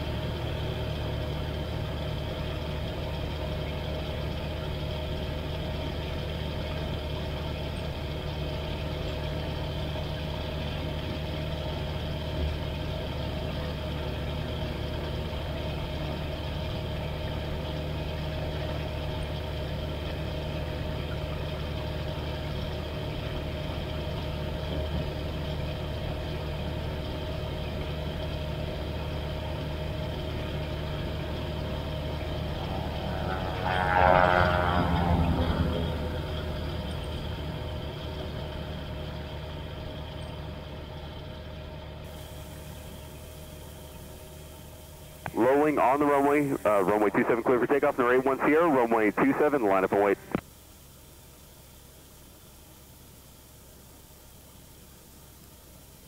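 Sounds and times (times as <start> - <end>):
plane engine and propeller: 0.0 - 56.0.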